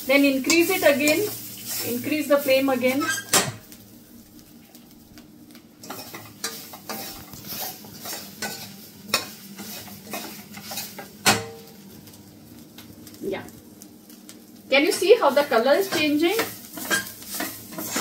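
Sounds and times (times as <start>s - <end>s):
faint sizzle: 0.0s - 18.0s.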